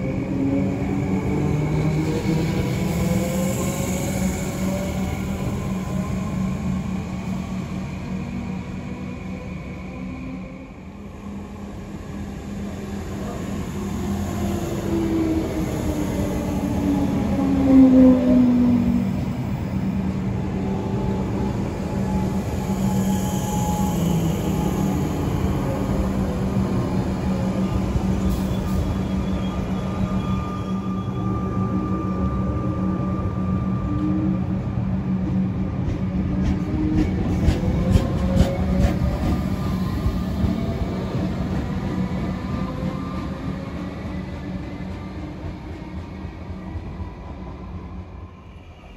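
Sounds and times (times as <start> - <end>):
electric train rolling past: 0.0 - 48.9.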